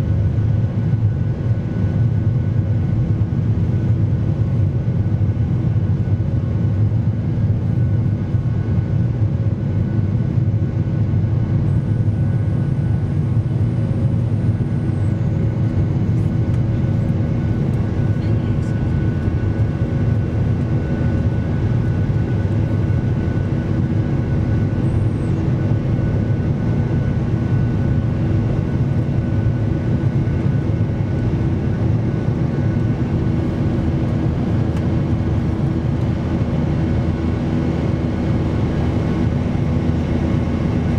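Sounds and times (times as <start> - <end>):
deep engine rumble and rushing air: 0.0 - 40.9.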